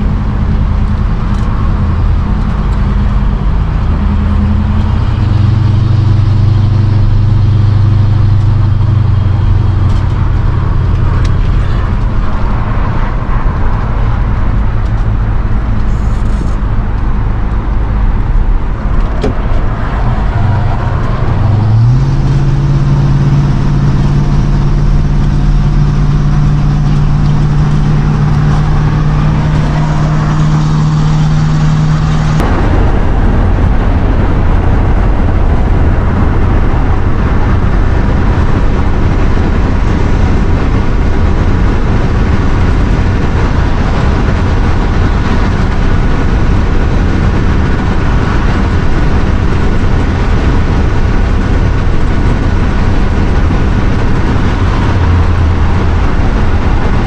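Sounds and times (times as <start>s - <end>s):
motorhome engine running: 0.0s - 57.0s
tyre and road noise: 0.0s - 57.0s.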